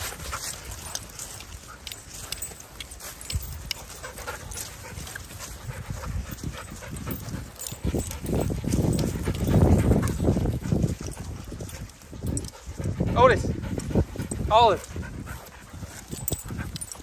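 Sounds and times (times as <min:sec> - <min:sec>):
dogs panting: 0:00.0 - 0:17.0
dogs scuffling on grass: 0:00.0 - 0:17.0
rough close dog noise: 0:00.0 - 0:17.0.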